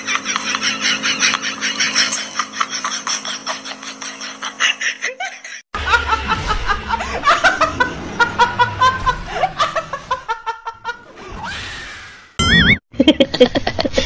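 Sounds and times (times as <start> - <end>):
young woman laughing: 0.0 - 11.1, 12.9 - 14.0.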